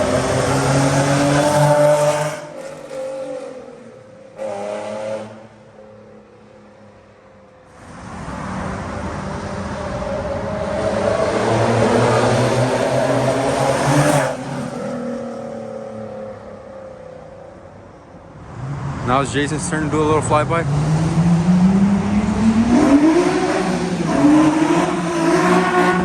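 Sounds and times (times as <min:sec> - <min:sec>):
car engine revving and accelerating: 0:00.0 - 0:05.6, 0:07.7 - 0:16.0, 0:18.3 - 0:26.0.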